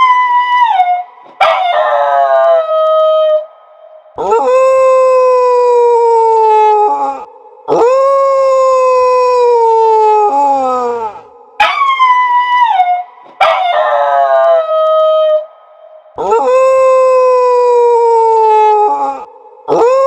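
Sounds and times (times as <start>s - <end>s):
dog howling: 0.0s - 3.5s, 4.2s - 15.5s, 16.2s - 20.0s.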